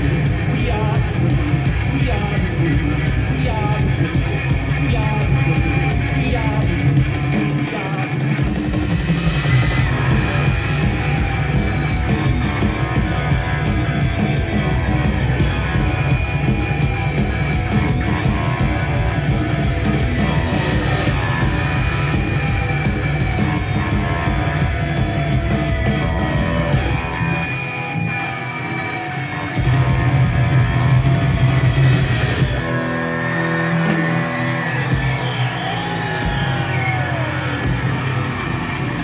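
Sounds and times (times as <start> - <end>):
deep bass: 0.0 - 28.2, 29.5 - 39.0
drum kit: 0.0 - 39.0
electric guitars: 0.0 - 39.0
keyboards: 0.0 - 39.0.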